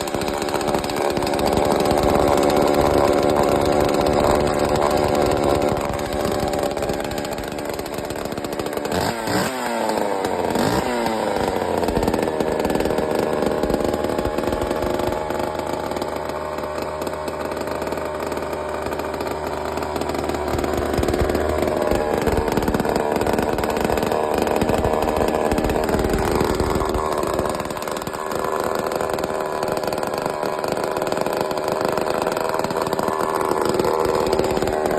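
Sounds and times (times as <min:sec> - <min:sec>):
chainsaw engine running loudly: 0:00.0 - 0:34.9.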